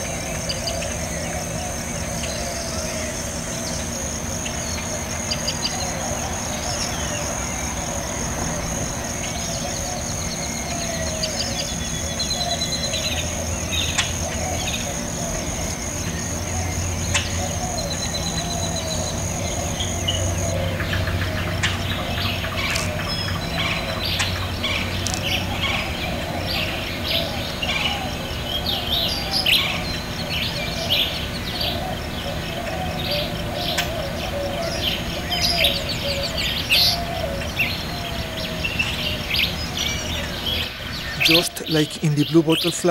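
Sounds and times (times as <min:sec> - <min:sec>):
high insect trill: 0:00.0 - 0:42.9.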